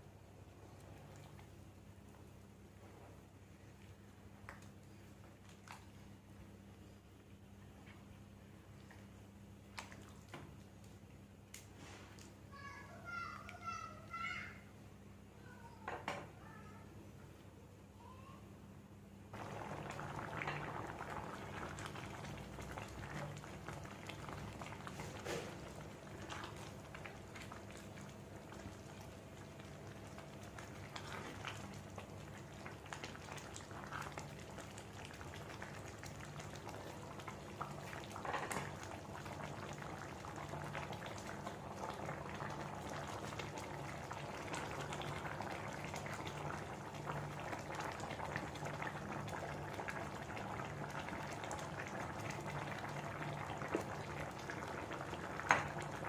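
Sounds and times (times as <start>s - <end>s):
liquid boiling in a pot: 0.0s - 12.3s, 19.3s - 56.0s.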